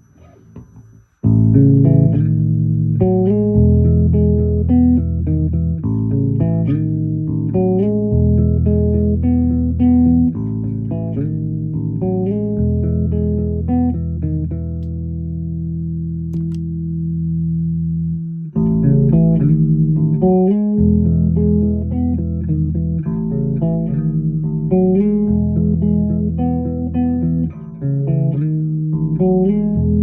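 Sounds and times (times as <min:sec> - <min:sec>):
electric bass notes: 0:00.0 - 0:30.0.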